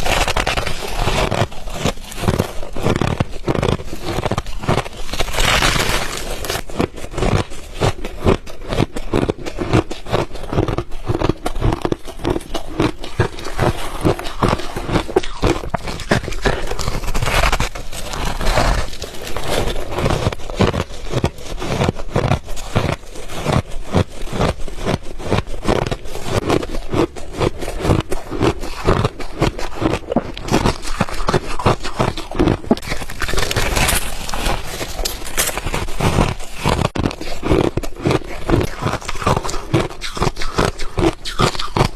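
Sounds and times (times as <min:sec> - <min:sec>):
ice being chewed: 0:00.0 - 0:41.9.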